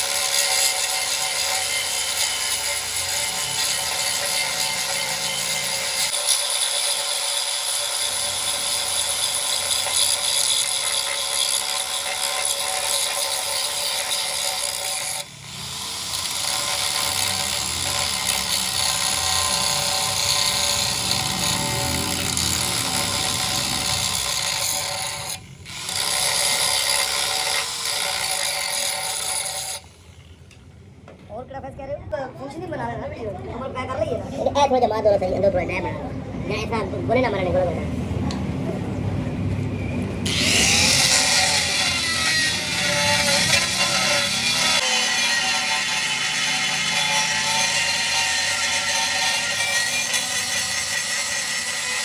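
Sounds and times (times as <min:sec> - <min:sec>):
power tool hiss and whir: 0:00.0 - 0:30.7, 0:40.2 - 0:52.0.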